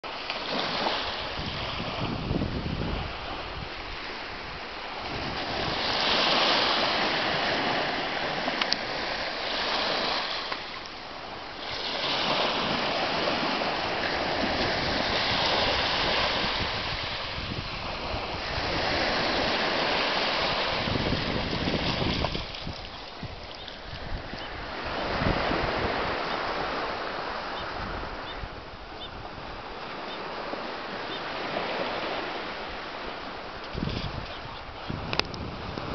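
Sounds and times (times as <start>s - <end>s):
water rushing in surges: 0.0s - 35.9s.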